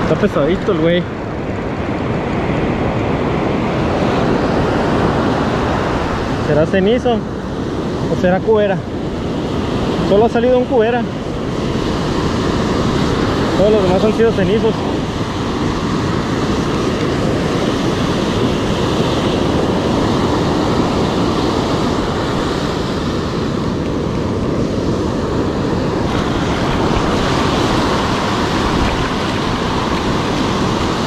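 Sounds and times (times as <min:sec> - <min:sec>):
surf breaking on beach: 0:00.0 - 0:31.0
wind on microphone: 0:00.0 - 0:31.0.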